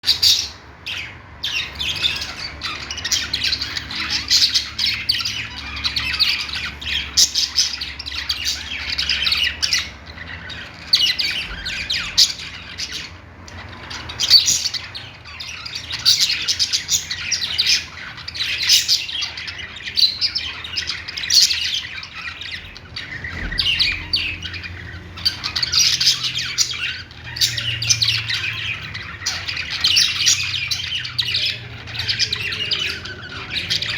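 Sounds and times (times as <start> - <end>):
budgerigars warbling and chirping: 0.0 - 33.9.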